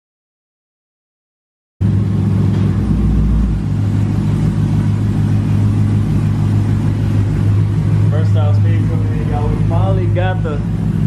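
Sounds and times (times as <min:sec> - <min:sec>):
car engine idling: 0:01.8 - 0:11.0.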